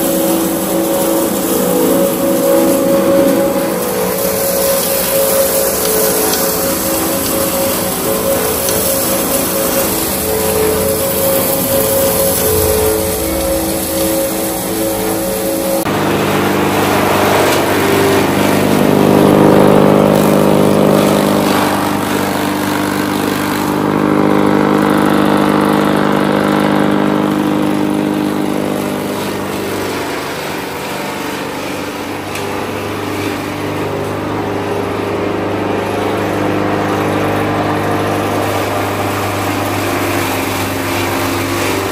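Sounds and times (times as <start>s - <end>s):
chaff cutter chopping fodder: 0.0s - 41.9s
flour mill motor grinding: 0.0s - 41.9s.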